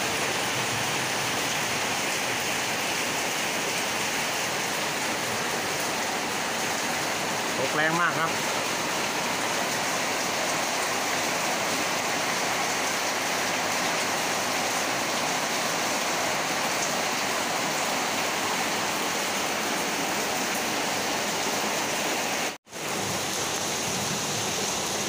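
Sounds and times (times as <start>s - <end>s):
heavy rain falling: 0.0s - 25.0s
rainwater pouring off roof: 0.0s - 25.0s.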